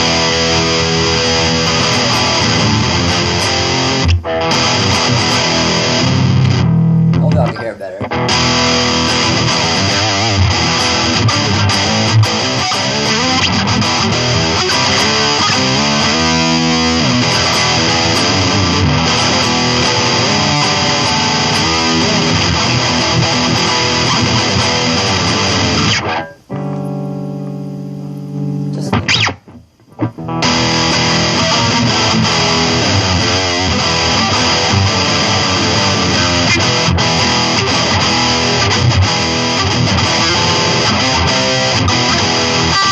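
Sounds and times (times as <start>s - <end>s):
distorted electric guitar: 0.0s - 42.9s.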